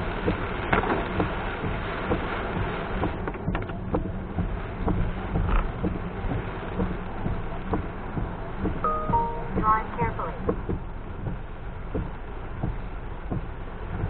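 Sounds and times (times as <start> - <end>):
heavy rain on a car: 0.0 - 14.0
raindrops ticking: 0.0 - 14.0
wet road noise: 0.0 - 14.0.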